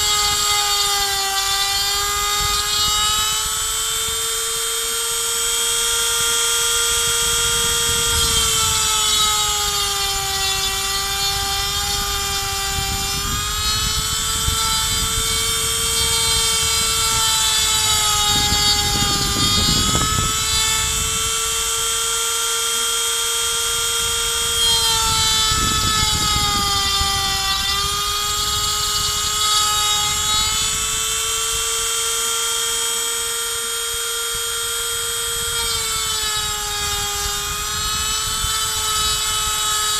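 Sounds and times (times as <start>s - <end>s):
rotary tool high whine: 0.0s - 39.9s
rough wood cutting noise: 0.0s - 39.9s.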